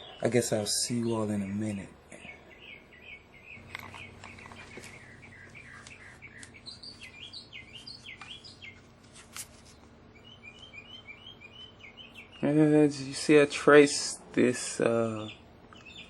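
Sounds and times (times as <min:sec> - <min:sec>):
faint low hum: 0:00.0 - 0:16.0
small birds chirping: 0:00.0 - 0:16.0.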